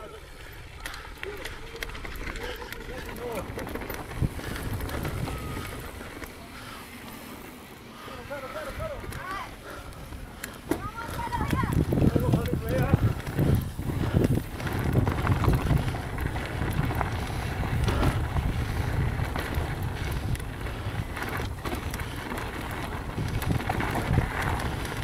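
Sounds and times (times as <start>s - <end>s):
bike tyres rumbling over dirt: 0.0s - 25.0s
light rattles and ticks: 0.5s - 6.4s, 8.3s - 25.0s
wind buffeting microphone: 0.5s - 7.0s, 8.0s - 25.0s.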